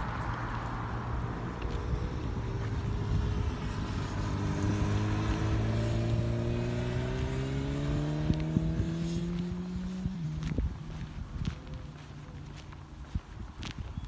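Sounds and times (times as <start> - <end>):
vehicle engine accelerating: 0.0 - 13.7.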